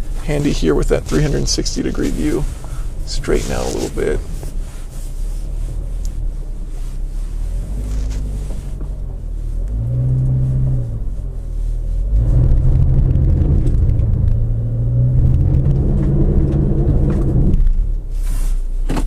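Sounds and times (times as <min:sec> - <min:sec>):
car engine revving under load: 0:00.0 - 0:19.0.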